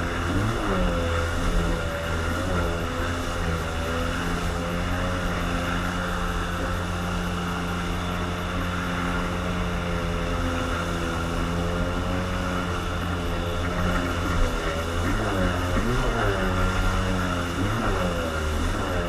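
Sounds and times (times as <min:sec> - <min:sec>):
boat motor running: 0:00.0 - 0:19.0
wind and water rumble: 0:00.0 - 0:19.0.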